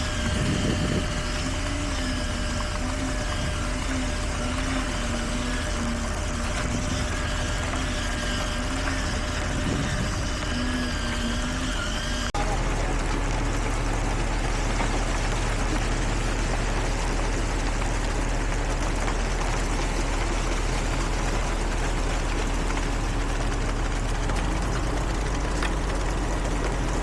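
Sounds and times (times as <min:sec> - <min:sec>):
heavy diesel machinery rumbling: 0:00.0 - 0:27.0.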